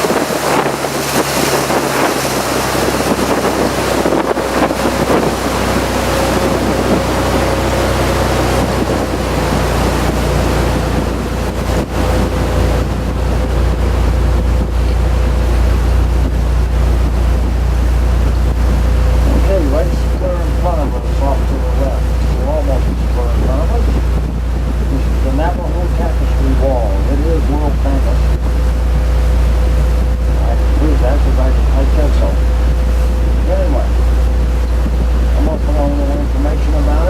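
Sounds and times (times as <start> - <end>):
motorboat engine running: 0.0 - 37.0
rushing water: 0.0 - 37.0
wind buffeting microphone: 0.0 - 37.0.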